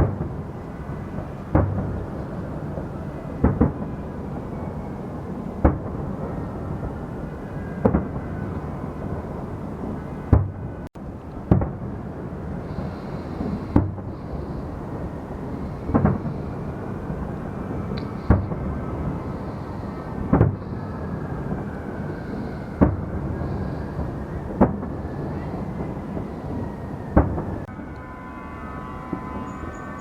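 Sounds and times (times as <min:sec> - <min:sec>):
fireworks bursting: 0:00.0 - 0:27.7, 0:29.0 - 0:30.0
steady background din: 0:00.2 - 0:30.0.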